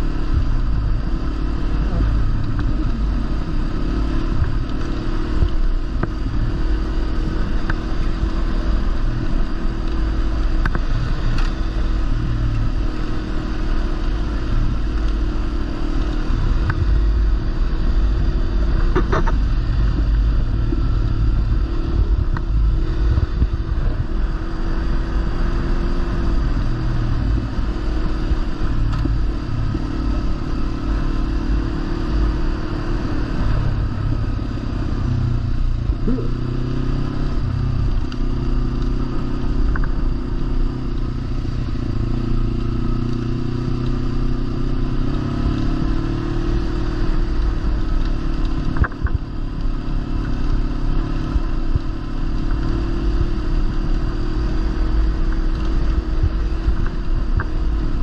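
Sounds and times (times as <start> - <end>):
motorcycle engine cruising: 0.0 - 58.0
wind rumble: 0.0 - 58.0.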